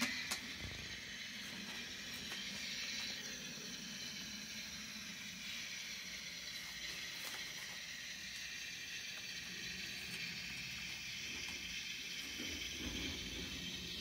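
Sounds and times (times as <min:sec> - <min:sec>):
model streetcar motor hum: 0:00.0 - 0:14.0.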